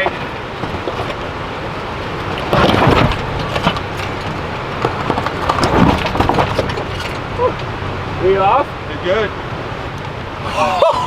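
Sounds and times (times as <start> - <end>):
vehicle engine at low speed: 0.0 - 11.0.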